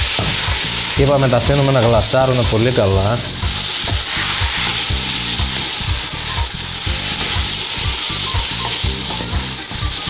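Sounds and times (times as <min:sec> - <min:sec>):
background music with low beat: 0:00.0 - 0:10.0
vegetables sizzling in oil: 0:00.0 - 0:10.0.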